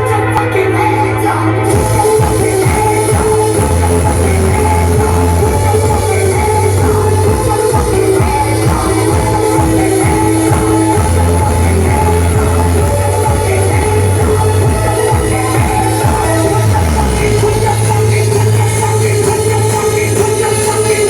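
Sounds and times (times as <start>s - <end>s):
heavy steady bass: 0.0s - 21.0s
loud music with singing: 0.0s - 21.0s.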